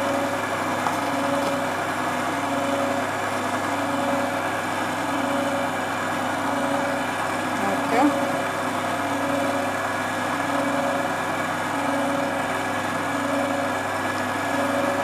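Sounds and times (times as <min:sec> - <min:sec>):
electric mixer motor humming: 0:00.0 - 0:15.0.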